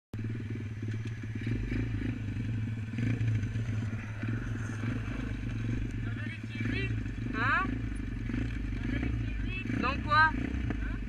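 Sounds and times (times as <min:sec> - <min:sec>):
motorbike engine running: 0:00.2 - 0:11.0.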